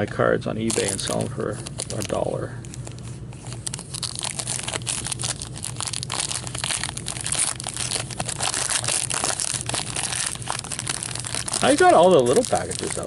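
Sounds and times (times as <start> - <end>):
plastic wrapping crinkling and tearing: 0.6 - 13.0.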